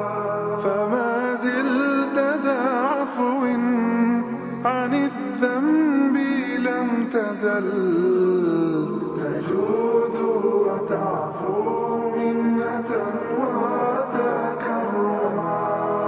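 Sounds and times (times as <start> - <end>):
chanted solo vocal: 0.0 - 16.0.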